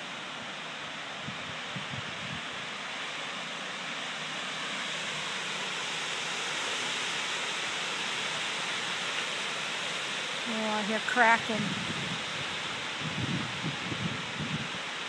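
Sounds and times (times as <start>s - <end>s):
strong wind rushing through trees: 0.0s - 15.0s.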